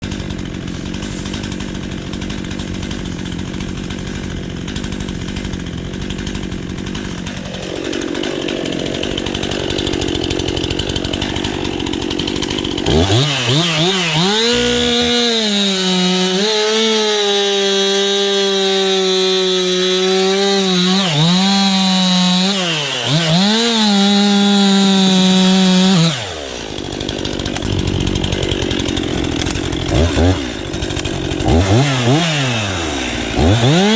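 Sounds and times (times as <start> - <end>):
chainsaw cutting logs: 0.0 - 33.9.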